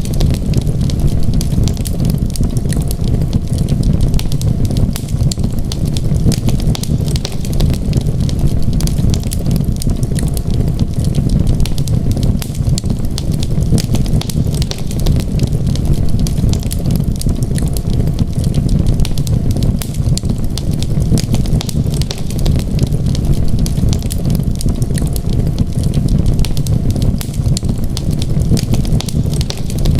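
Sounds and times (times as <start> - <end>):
storm wind rumble: 0.0 - 29.9
wood fire crackling: 0.0 - 29.9.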